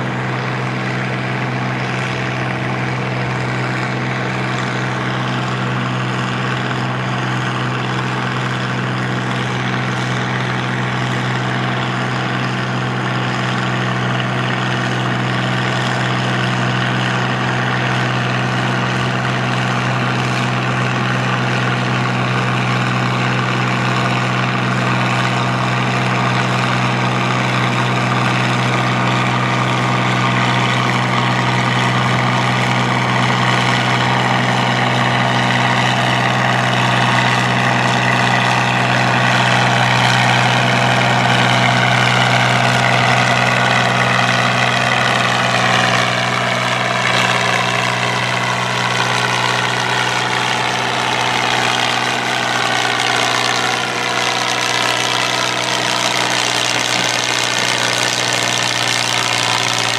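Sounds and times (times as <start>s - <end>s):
tractor engine under heavy load: 0.0s - 59.9s.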